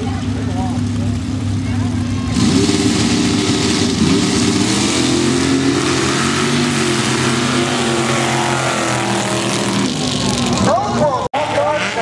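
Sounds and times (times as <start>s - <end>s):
truck engine running loudly: 0.0s - 12.0s.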